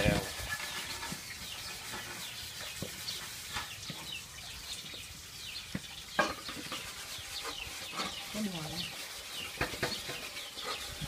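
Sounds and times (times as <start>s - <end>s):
high falling bird chirps: 0.5s - 11.0s.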